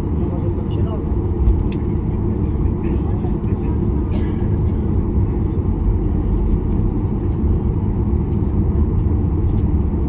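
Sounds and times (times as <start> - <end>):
jet engine cabin rumble: 0.0 - 10.0.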